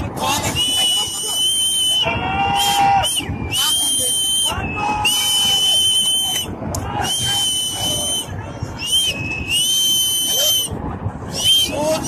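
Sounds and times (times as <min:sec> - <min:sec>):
shrill whistle blasts: 0:00.5 - 0:10.7, 0:11.3 - 0:11.8.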